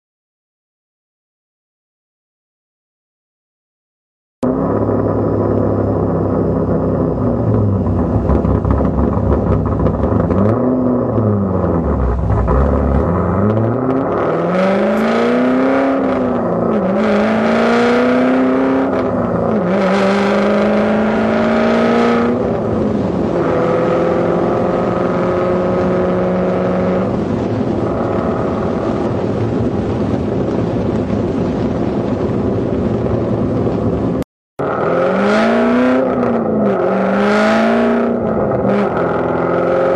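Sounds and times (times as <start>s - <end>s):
car engine accelerating through gears: 4.4s - 31.4s, 33.5s - 39.9s.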